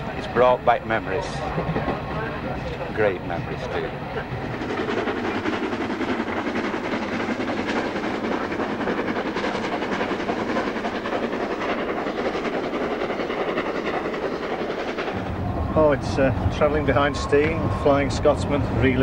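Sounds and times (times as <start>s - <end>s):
steam locomotive passing at speed: 0.0s - 19.0s.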